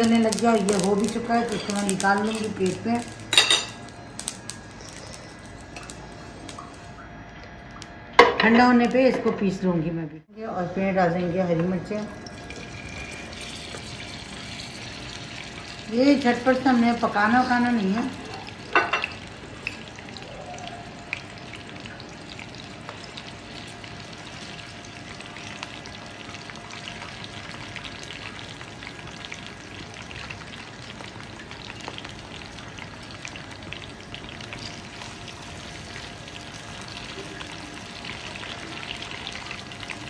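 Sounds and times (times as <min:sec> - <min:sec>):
chillies sizzling in hot oil: 0:00.0 - 0:07.0, 0:11.8 - 0:40.0.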